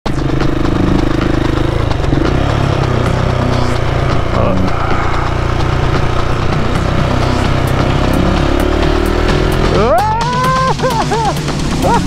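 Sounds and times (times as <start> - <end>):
motorcycle engine running: 0.1 - 12.0.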